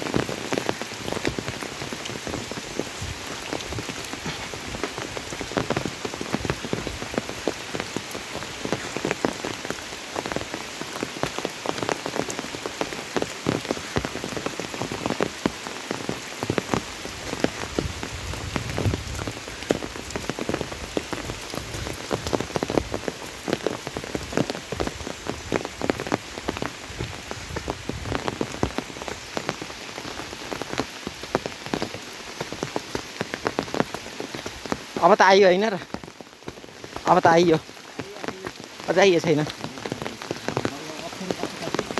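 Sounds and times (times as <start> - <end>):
raindrops spattering close by: 0.0 - 41.9
steady heavy rain: 0.0 - 41.9.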